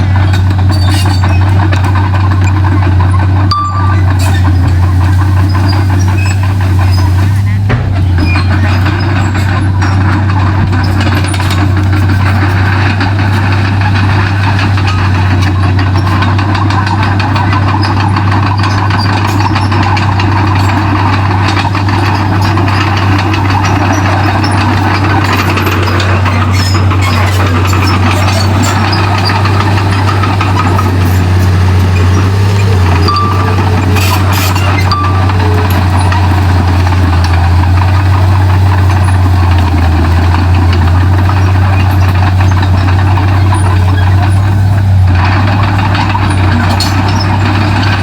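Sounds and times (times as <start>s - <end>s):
bulldozer diesel engine droning: 0.0s - 48.0s.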